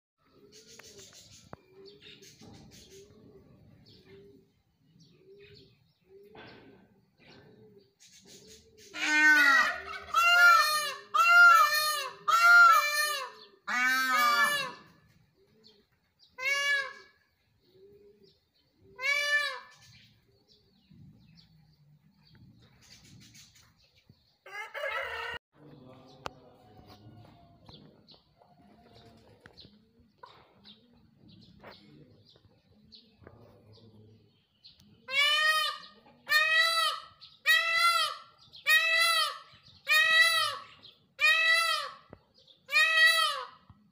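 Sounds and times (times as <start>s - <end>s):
peacocks calling: 0.2s - 43.9s.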